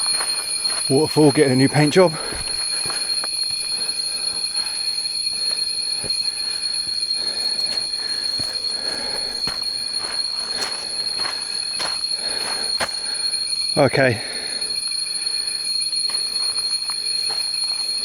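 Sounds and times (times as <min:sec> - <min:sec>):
jungle insects droning: 0:00.0 - 0:18.0.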